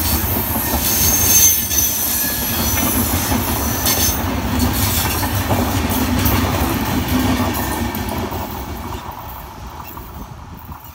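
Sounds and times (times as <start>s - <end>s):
train rushing past: 0.0s - 10.9s.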